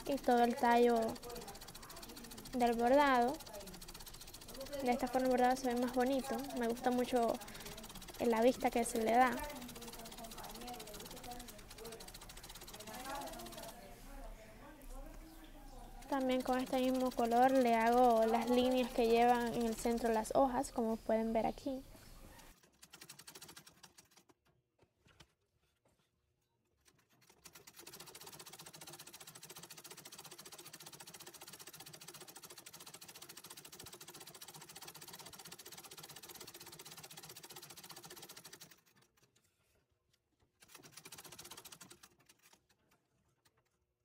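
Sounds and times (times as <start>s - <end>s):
treadle sewing machine stitching: 0.0s - 24.4s, 26.8s - 39.3s, 40.6s - 43.7s.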